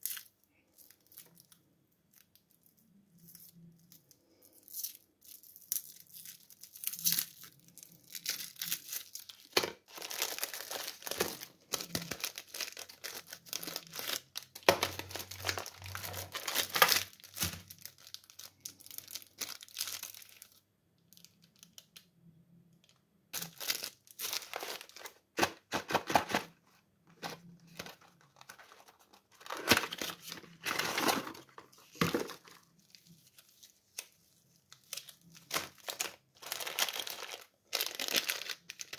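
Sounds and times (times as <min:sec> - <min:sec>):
plastic wrappers crinkling: 0:00.0 - 0:22.1, 0:22.8 - 0:38.9.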